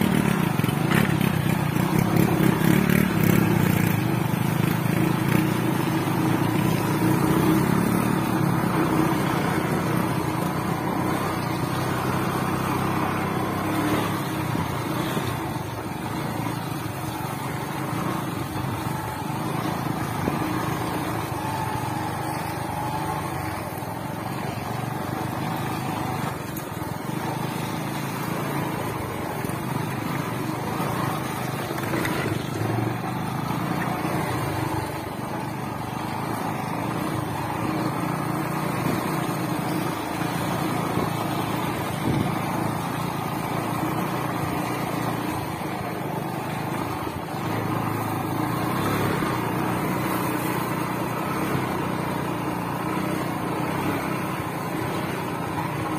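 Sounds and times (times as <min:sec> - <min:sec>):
small motorcycles running: 0:00.0 - 0:55.9.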